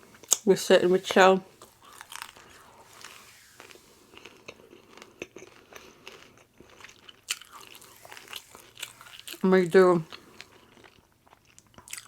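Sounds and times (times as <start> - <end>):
chewing crunchy food: 1.5 - 12.0.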